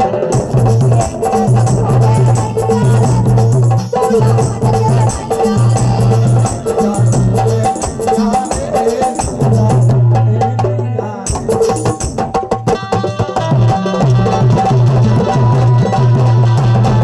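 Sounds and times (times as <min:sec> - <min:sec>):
rattle percussion: 0:00.0 - 0:10.0, 0:11.3 - 0:17.0
fast hand drum: 0:00.0 - 0:17.0.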